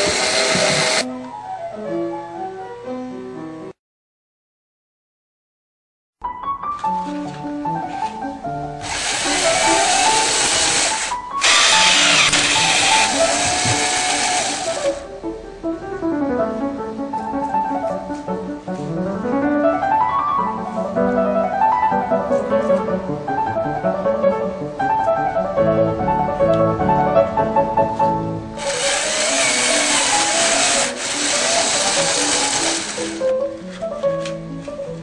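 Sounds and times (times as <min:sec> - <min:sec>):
instrumental background music: 0:00.0 - 0:03.8, 0:06.2 - 0:35.0.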